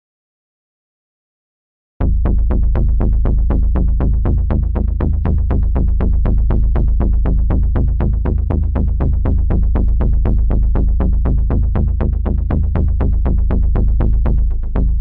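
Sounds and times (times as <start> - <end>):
deep continuous drone: 2.0 - 15.0.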